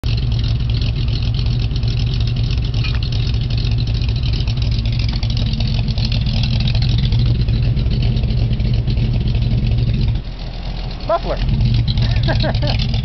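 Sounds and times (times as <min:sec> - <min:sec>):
engine idling through exhaust: 0:00.0 - 0:13.0.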